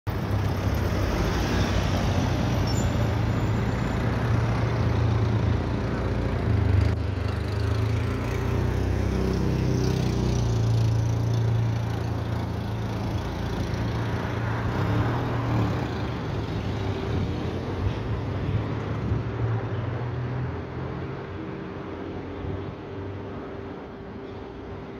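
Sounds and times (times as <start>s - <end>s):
road traffic passing: 0.1s - 24.9s.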